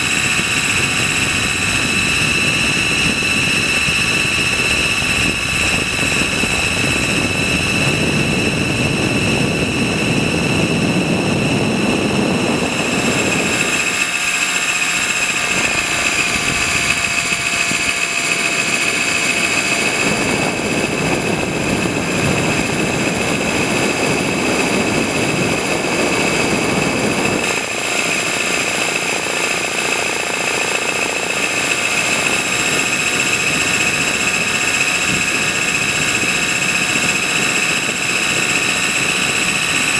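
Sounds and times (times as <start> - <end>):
high rotor drive whine: 0.0 - 39.9.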